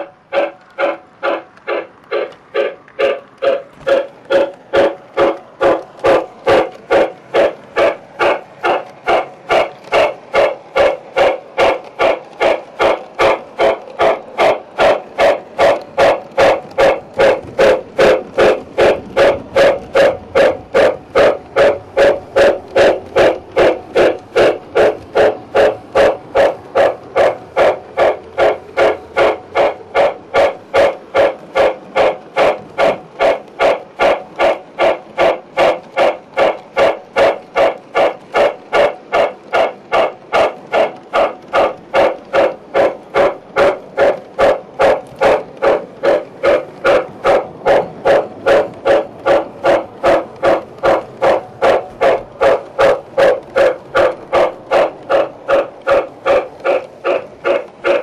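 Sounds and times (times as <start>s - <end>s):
model train running on track: 0.0s - 58.0s.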